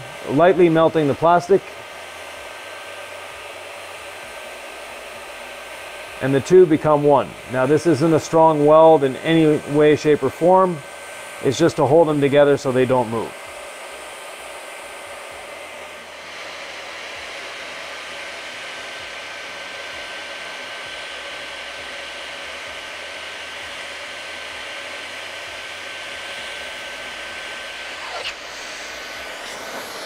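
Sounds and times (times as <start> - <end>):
hot-air gun blower hissing: 0.0 - 30.0.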